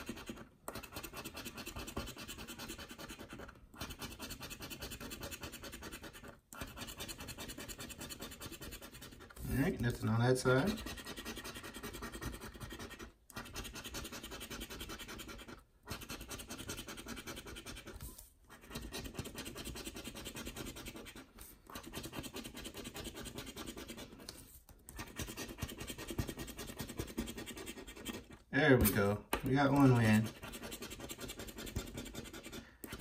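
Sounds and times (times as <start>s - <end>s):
scratcher rubbing lottery ticket: 0.0s - 33.0s.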